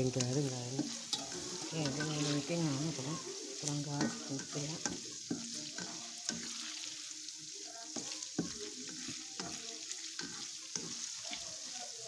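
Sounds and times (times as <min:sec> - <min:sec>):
tofu sizzling in oil: 0:00.0 - 0:12.0
spatula scraping and knocking pan: 0:00.1 - 0:06.9, 0:07.9 - 0:11.5.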